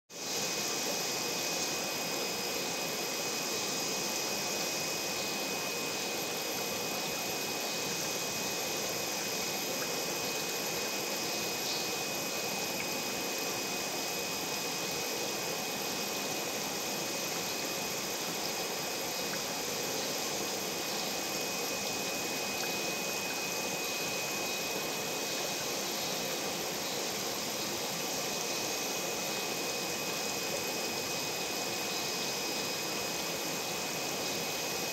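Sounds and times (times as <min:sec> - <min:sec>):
hiss of moving water: 0:00.1 - 0:34.9
pump high whine: 0:00.2 - 0:34.9.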